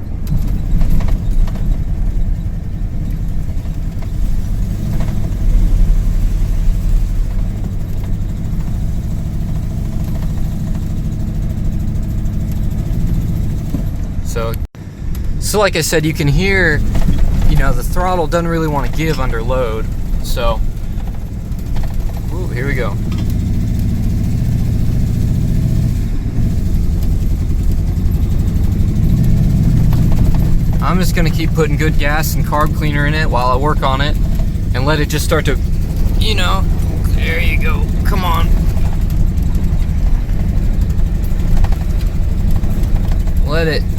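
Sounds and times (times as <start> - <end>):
truck engine running under load: 0.0 - 43.9.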